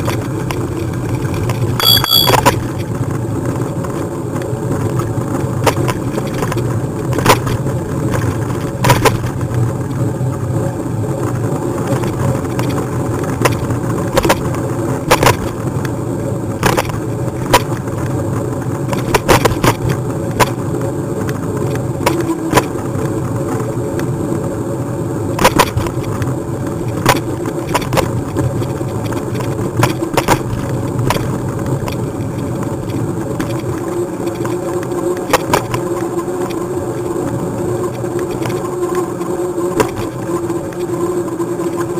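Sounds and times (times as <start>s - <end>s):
bike rolling hum: 0.0s - 1.8s, 2.6s - 41.9s.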